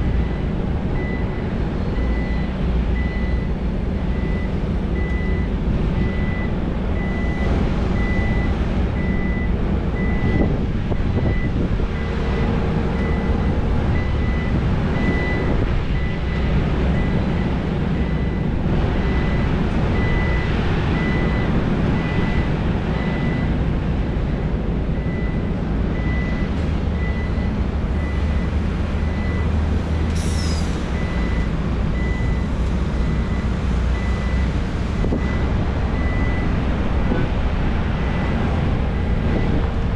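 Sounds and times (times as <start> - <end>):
reversing alarm beeping: 0.0 - 23.6, 24.3 - 29.6, 30.2 - 37.2, 38.0 - 39.7
diesel engine rumble: 0.0 - 39.9.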